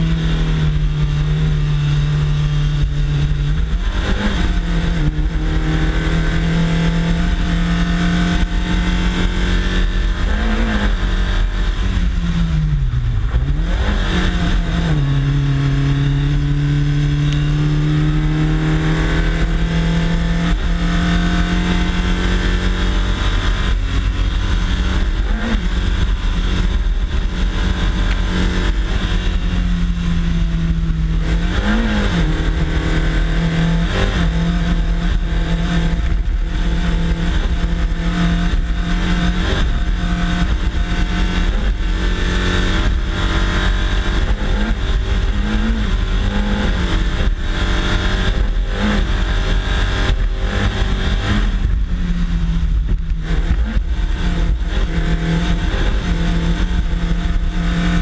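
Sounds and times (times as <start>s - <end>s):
race car engine under load: 0.0s - 58.0s
wind and road noise rumble: 0.0s - 58.0s.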